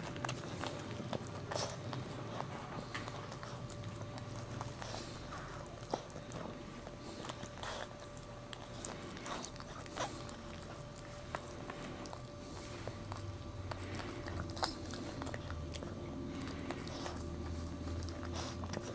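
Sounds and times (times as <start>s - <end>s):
dog licking puppy: 0.0s - 18.9s
faint steady hum: 0.0s - 18.9s.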